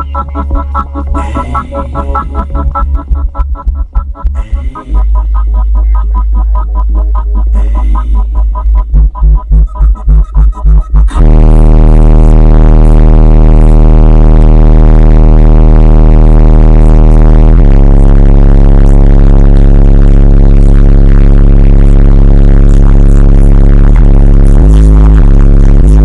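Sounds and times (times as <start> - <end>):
subwoofer deep bass tone: 0.0 - 26.0.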